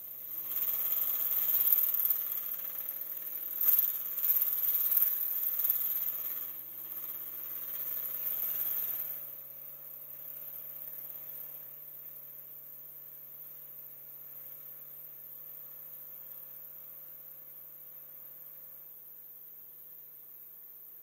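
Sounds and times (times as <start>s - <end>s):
truck engine running low: 0.0s - 18.9s.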